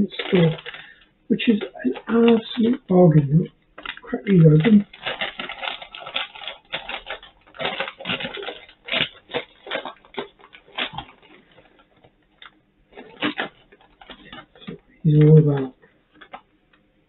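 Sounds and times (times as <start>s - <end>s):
paper bag crinkling: 0.0s - 16.5s.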